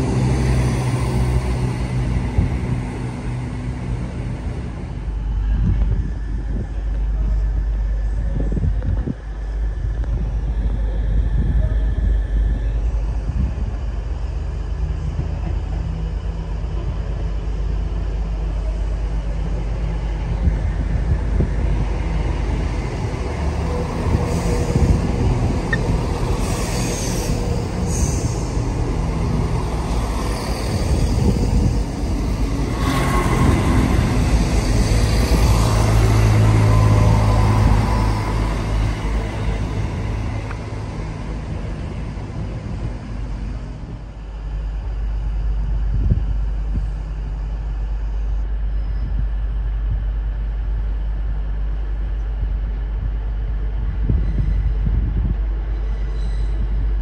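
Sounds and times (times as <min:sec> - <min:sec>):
diesel train rumbling: 0:00.0 - 0:57.0.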